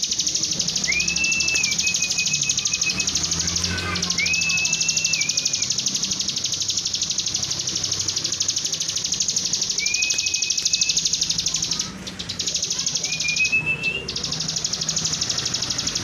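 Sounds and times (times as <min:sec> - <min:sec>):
bird singing high chipping notes: 0:00.0 - 0:16.0.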